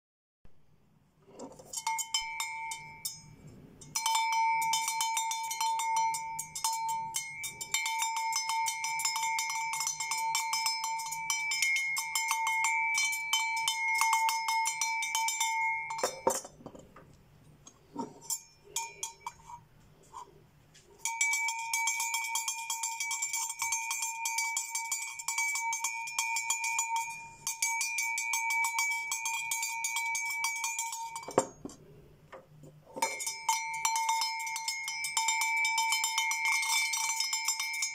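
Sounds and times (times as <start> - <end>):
small metal bells ringing: 1.6 - 16.6, 17.8 - 19.6, 21.0 - 31.8, 32.9 - 37.9.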